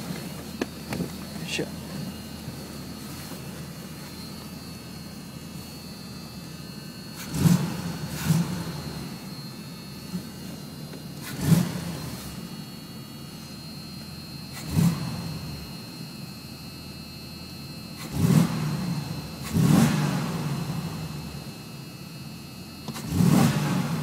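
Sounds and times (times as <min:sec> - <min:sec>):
engine idling with throttle blips: 0:00.0 - 0:24.0.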